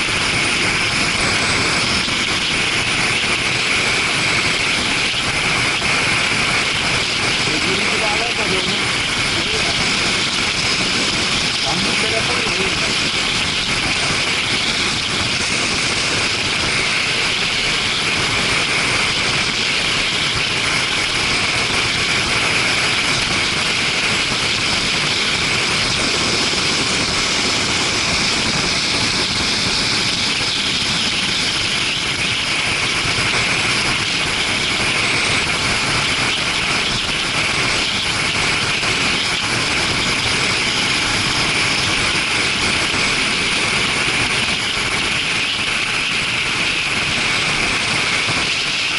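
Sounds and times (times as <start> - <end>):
wind and road noise on motorcycle: 0.0 - 48.9.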